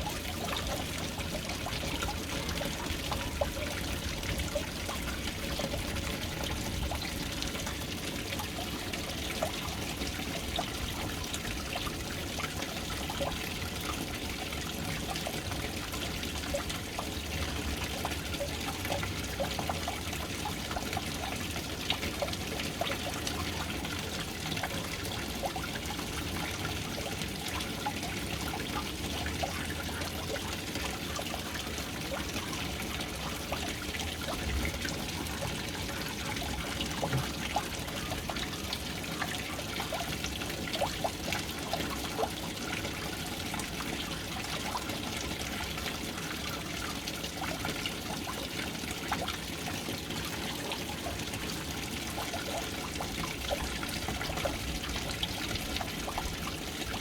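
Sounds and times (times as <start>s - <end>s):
small splashes and drips: 0.0s - 57.0s
water pouring into tank: 0.0s - 57.0s.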